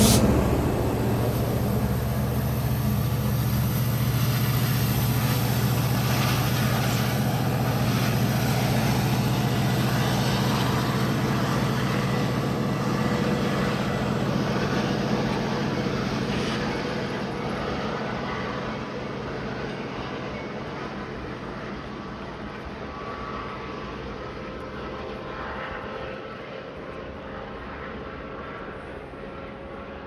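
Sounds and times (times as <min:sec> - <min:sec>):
diesel locomotive humming: 0:00.0 - 0:30.0.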